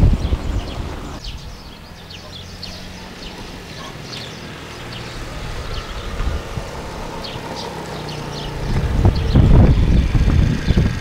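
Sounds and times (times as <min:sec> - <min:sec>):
scooter engine running: 0:02.0 - 0:11.0.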